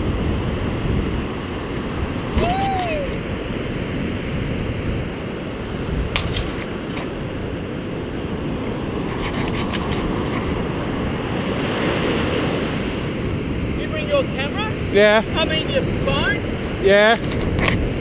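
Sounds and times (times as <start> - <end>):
surf washing up beach: 0.0 - 18.0
wind rumble on microphone: 0.0 - 18.0.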